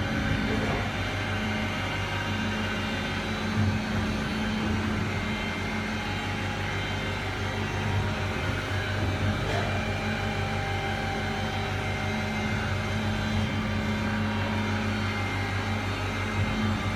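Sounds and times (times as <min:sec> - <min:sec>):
sharpening machine humming and whining: 0:00.0 - 0:16.9.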